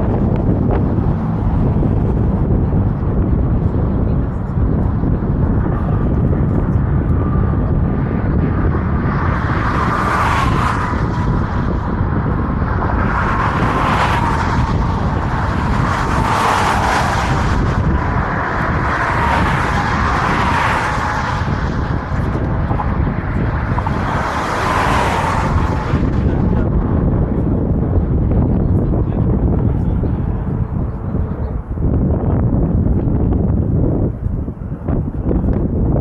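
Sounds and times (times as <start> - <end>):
cars passing: 0.0 - 36.0
low traffic rumble: 0.0 - 36.0.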